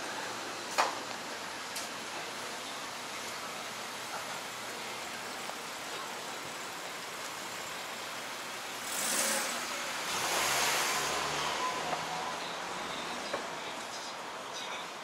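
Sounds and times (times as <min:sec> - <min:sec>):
tyres hissing on road: 0:00.0 - 0:15.0
vehicles passing: 0:00.0 - 0:15.0.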